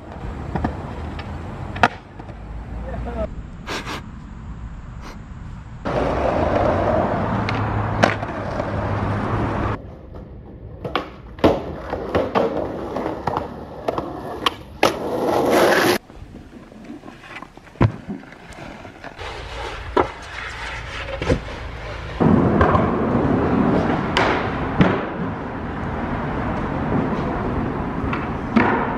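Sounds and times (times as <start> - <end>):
skateboard clacks: 0.0 - 2.4, 5.9 - 9.1, 9.7 - 16.0, 16.6 - 28.9
skateboard wheels rolling on concrete: 0.0 - 28.9.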